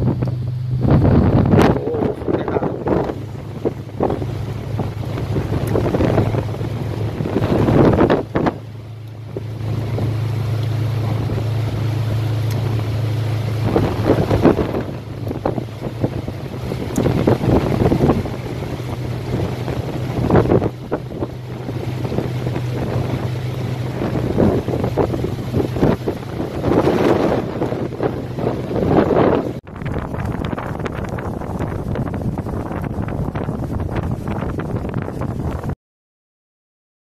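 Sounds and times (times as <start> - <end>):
steady low hum: 0.0 - 34.4
strong wind buffeting microphone: 0.0 - 35.8.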